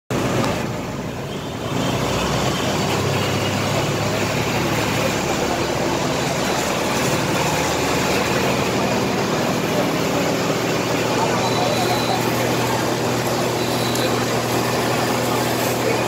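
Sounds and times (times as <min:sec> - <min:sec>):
engine running: 0:00.1 - 0:16.0
hose spraying hiss: 0:01.9 - 0:16.0.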